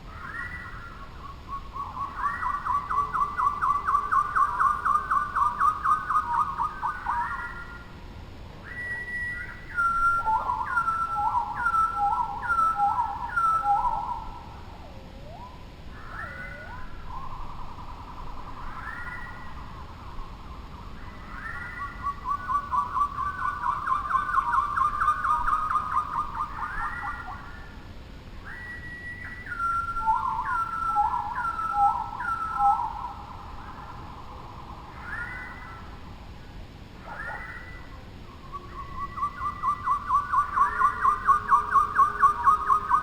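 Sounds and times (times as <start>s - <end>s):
songbirds whistling: 0.0s - 8.0s, 8.6s - 43.0s.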